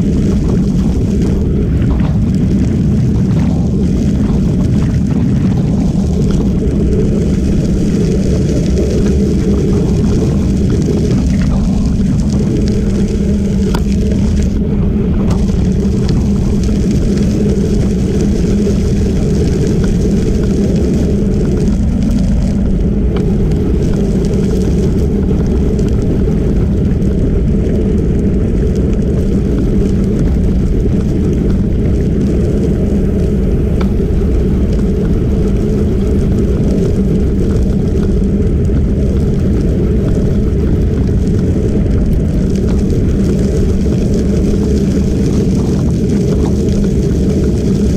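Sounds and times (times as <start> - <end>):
wind noise on microphone: 0.0 - 47.9.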